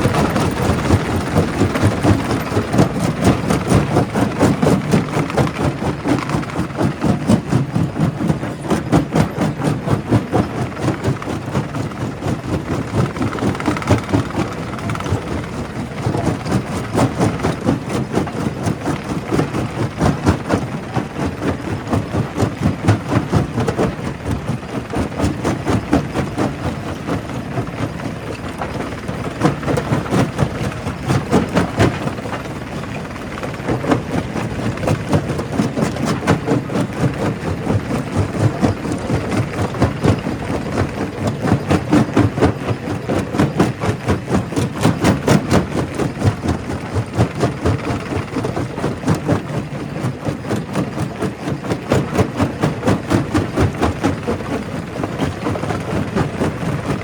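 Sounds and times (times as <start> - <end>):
rock crusher knocking and grinding: 0.0 - 57.0.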